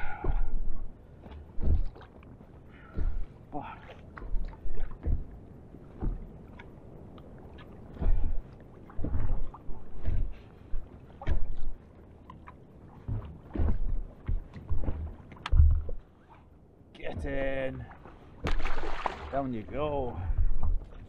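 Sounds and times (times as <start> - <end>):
thumps on inflatable boat: 0.0 - 2.2, 2.8 - 6.7, 7.9 - 11.8, 13.0 - 16.0, 17.0 - 21.0.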